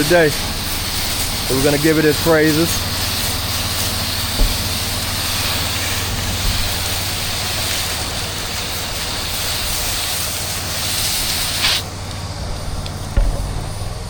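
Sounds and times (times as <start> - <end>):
hose nozzle spraying hiss: 0.0 - 14.0
pump engine running: 0.0 - 14.0.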